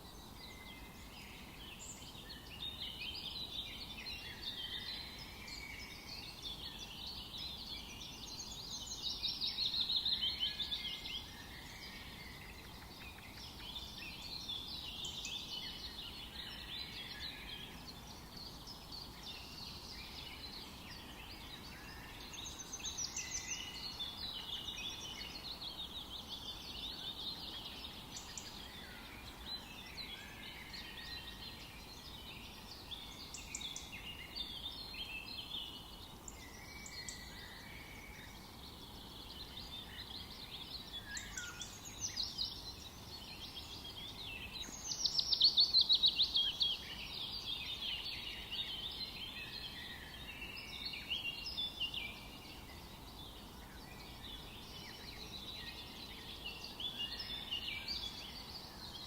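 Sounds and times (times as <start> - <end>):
birds chirping and trilling: 0.0 - 59.0
faint background hiss: 0.0 - 59.0.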